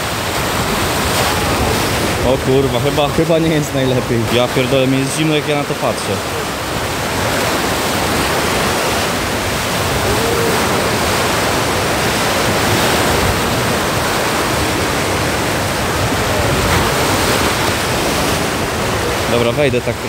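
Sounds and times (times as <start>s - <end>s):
waves breaking on a beach: 0.0s - 20.0s.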